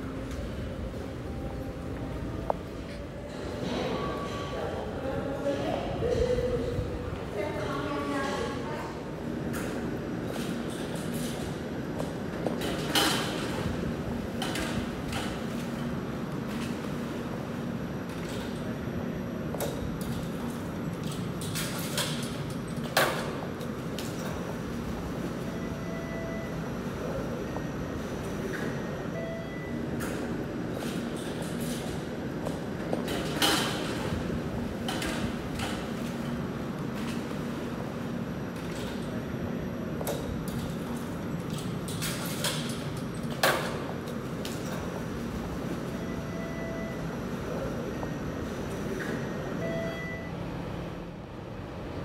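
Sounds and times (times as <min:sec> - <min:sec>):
streetcar electrical hum: 0:00.0 - 0:52.0.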